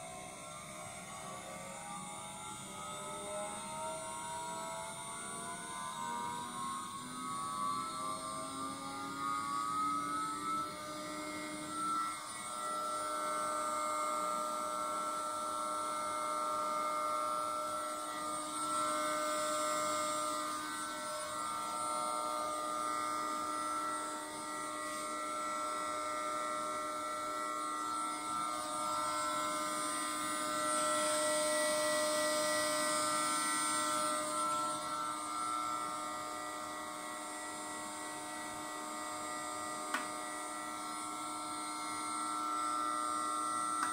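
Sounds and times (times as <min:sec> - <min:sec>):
router spindle motor whining: 0:00.0 - 0:43.9.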